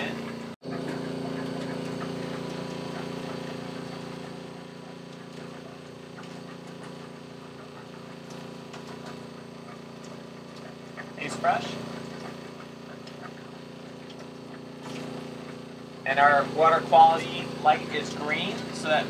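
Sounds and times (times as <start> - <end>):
pump motor hum: 0.0 - 19.0.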